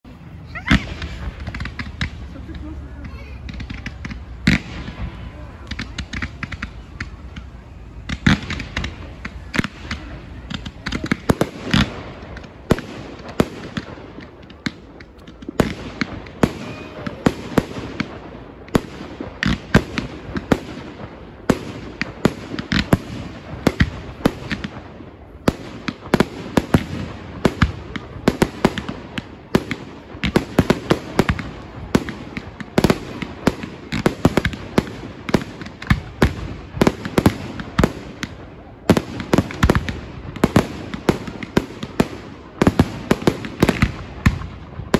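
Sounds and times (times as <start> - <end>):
fireworks bangs and pops: 0.0 - 44.9.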